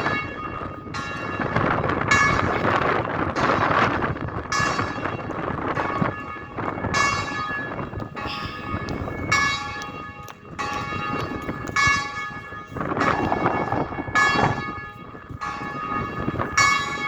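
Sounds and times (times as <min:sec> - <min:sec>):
bells ringing: 0:00.0 - 0:17.0
gusty wind: 0:00.0 - 0:17.0.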